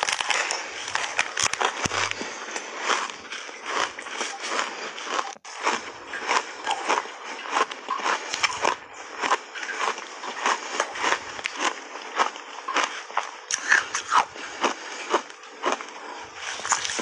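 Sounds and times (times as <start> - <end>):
crunching ice: 0.0 - 17.0.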